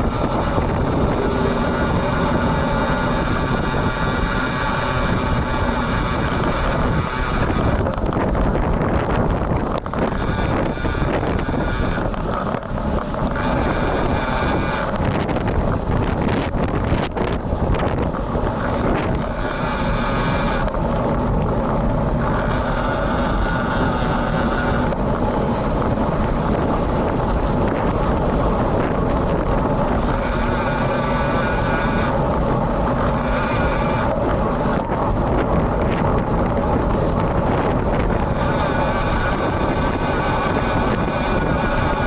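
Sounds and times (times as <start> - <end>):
high even buzz: 0.0 - 42.0
wind buffeting microphone: 0.0 - 42.0.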